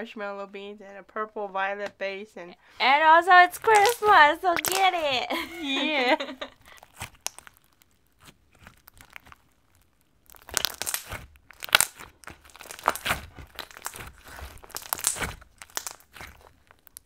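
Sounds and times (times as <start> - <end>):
slime crunching and crackling: 2.9 - 17.0.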